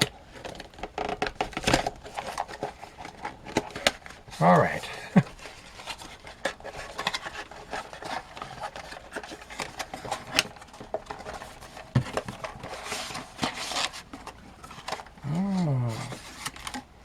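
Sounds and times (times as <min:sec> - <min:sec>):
cardboard and plastic rustling: 0:00.0 - 0:17.0.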